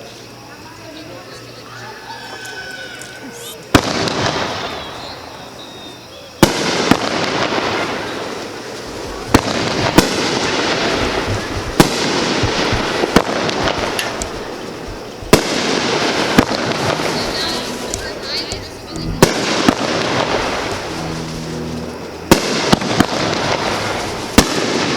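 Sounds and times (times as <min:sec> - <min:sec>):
fireworks crackling: 0:03.4 - 0:24.9
fireworks bangs: 0:03.7 - 0:05.6, 0:06.4 - 0:24.9.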